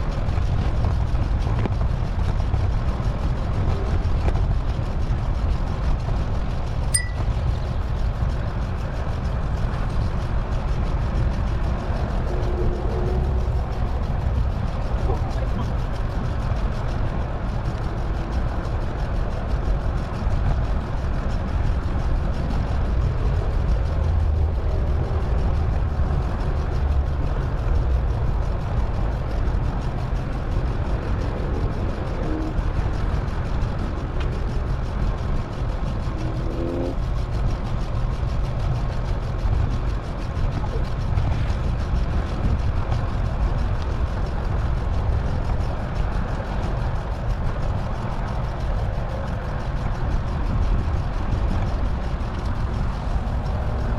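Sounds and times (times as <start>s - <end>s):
wind and road noise: 0.0s - 53.9s.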